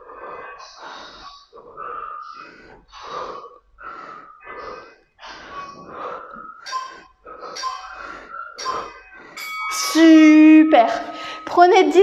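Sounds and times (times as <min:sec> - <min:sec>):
woman breathing hard: 0:00.0 - 0:09.6, 0:10.5 - 0:11.5.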